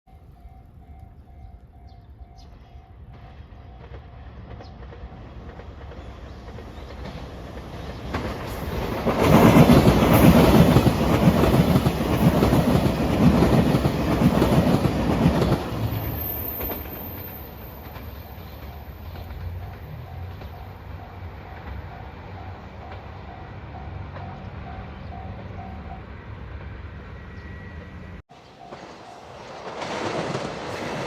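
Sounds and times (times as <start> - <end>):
train passing: 0.1 - 31.0.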